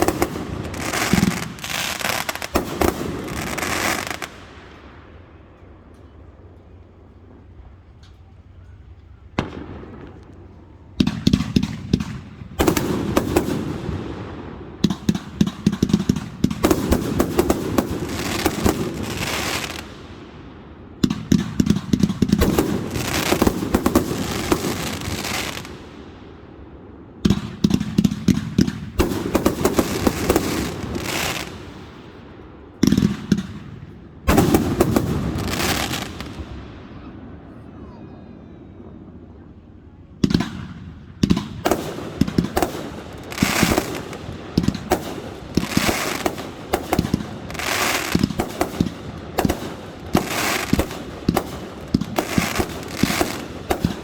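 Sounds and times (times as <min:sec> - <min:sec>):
fireworks bangs and crackle: 0:00.0 - 0:37.8, 0:40.2 - 0:54.0.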